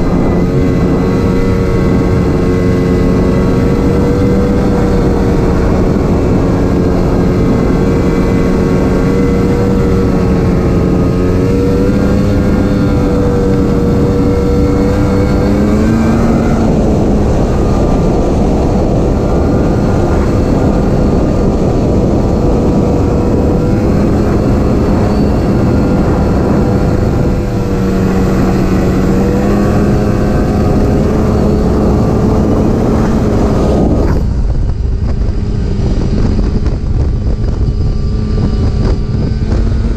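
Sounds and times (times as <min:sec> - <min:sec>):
constant rushing noise: 0:00.0 - 0:39.9
snowmobile engine running: 0:00.0 - 0:39.9.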